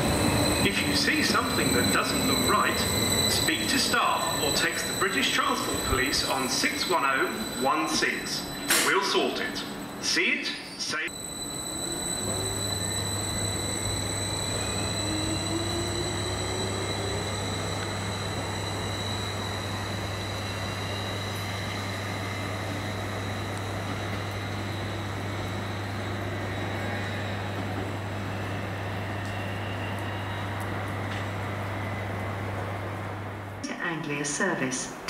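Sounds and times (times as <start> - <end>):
faint high whines: 0.0 - 33.6
train rumbling: 0.0 - 35.0.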